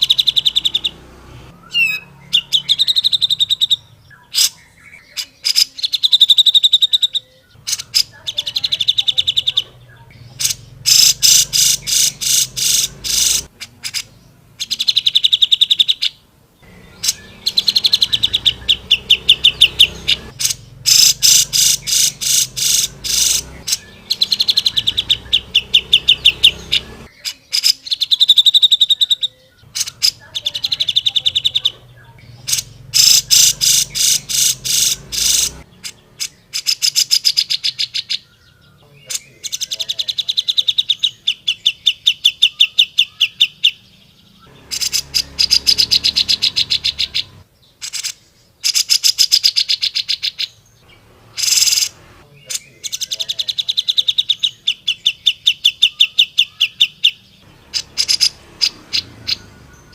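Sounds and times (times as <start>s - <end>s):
bird singing fast trills: 0.0s - 59.9s.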